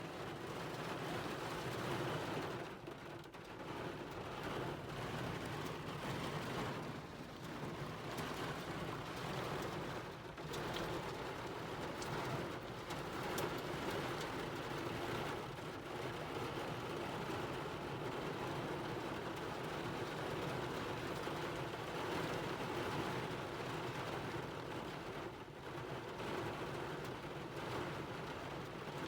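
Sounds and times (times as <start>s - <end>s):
rain pelting a tent tarp: 0.0s - 29.0s.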